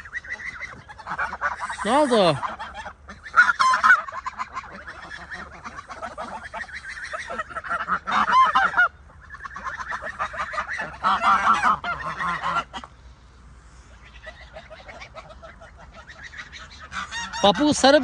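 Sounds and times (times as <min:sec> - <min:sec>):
ducks quacking: 0:00.0 - 0:18.0.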